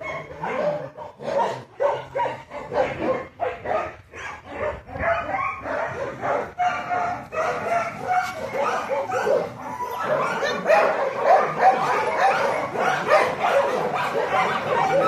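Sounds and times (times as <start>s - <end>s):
dog yipping and barking: 0.0s - 15.0s.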